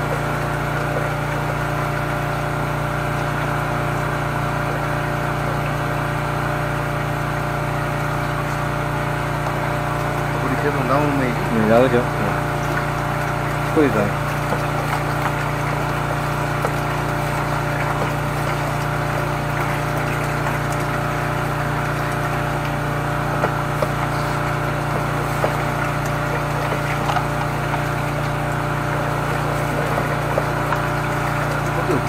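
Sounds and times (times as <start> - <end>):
drain jetter pump running: 0.0 - 32.0.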